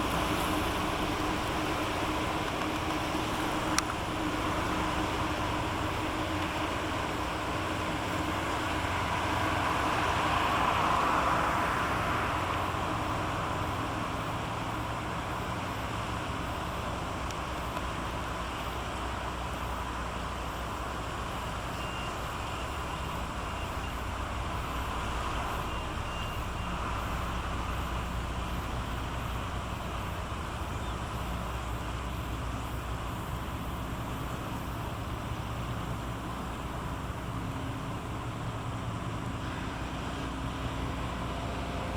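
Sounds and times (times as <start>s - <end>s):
ship engine rumble: 0.0s - 41.9s.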